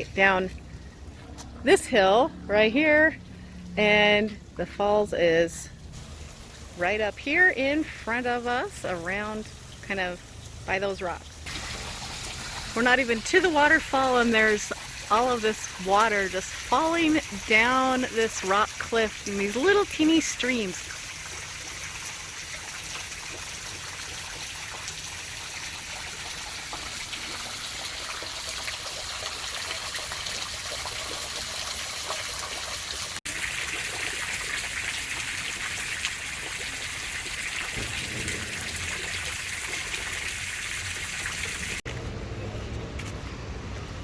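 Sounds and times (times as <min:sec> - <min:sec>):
water trickling down rock: 0:00.0 - 0:01.6, 0:05.8 - 0:41.8.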